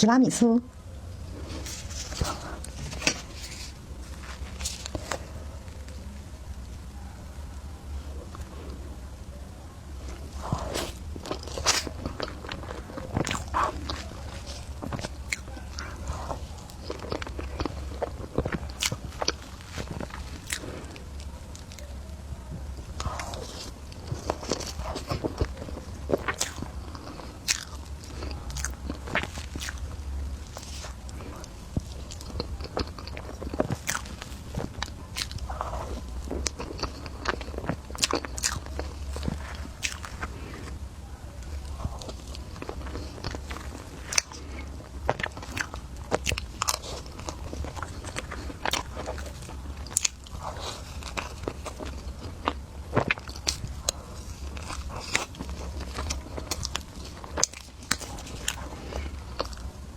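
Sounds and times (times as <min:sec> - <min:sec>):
low steady hum: 0:00.0 - 0:59.9
person chewing: 0:01.1 - 0:06.9, 0:07.6 - 0:09.3, 0:09.9 - 0:59.9.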